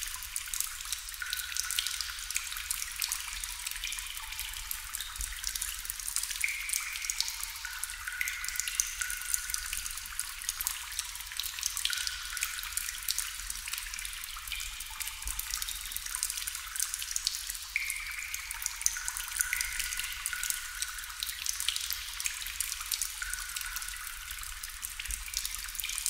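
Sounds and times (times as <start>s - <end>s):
water drops falling into water: 0.0s - 26.0s
water trickling: 0.0s - 26.0s.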